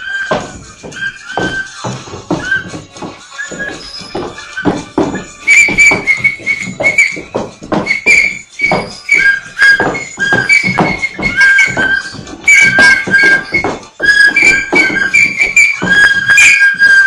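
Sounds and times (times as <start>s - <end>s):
upbeat dance music: 0.0s - 16.2s
high piping notes: 0.0s - 17.0s.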